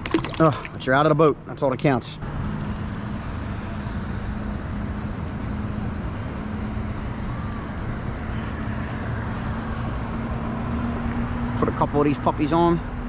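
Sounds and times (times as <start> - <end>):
constant wash of noise: 0.0 - 13.0.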